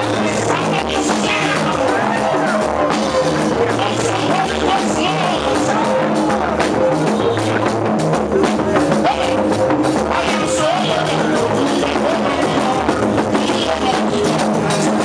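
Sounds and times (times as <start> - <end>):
church band music: 0.0 - 15.0
drum kit and bass beat: 0.0 - 15.0.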